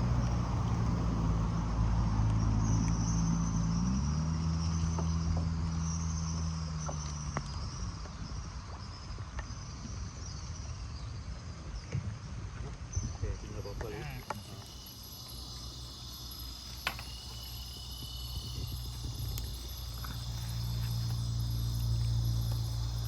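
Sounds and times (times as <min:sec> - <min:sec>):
small boat engine running: 0:00.0 - 0:10.0, 0:13.8 - 0:23.0
high insect chirping: 0:00.0 - 0:11.8, 0:13.0 - 0:23.0.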